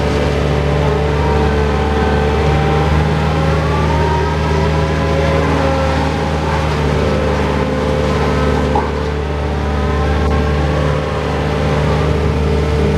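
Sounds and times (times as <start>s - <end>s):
diesel engine drone: 0.0s - 12.9s.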